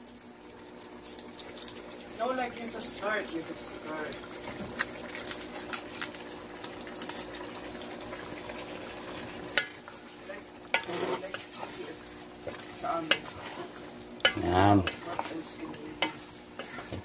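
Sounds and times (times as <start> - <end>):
stew bubbling and sizzling: 0.0 - 17.0.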